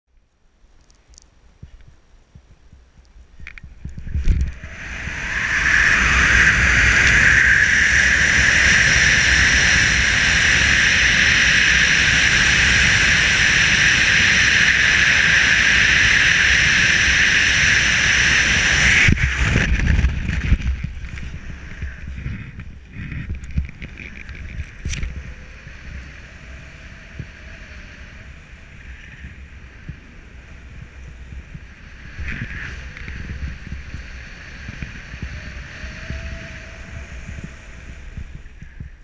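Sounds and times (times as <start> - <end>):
wind rushing over microphone: 1.5 - 39.0.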